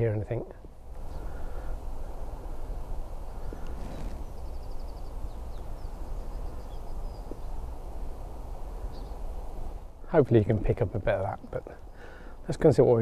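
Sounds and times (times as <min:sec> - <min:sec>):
wind buffeting a microphone: 0:00.0 - 0:10.8
songbirds chirping: 0:00.0 - 0:13.0.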